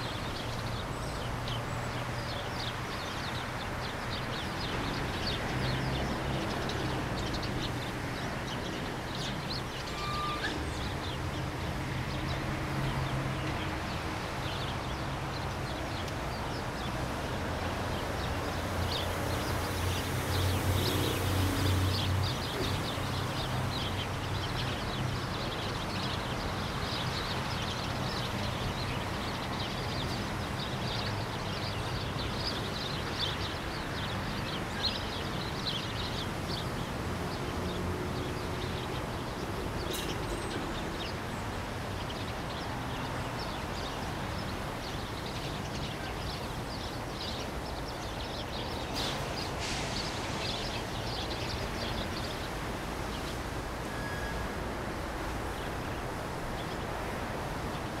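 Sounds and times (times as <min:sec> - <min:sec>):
small birds chirping: 0:00.0 - 0:54.4
distant city traffic hum: 0:00.0 - 0:58.0
fountain water jets rushing: 0:00.0 - 0:58.0.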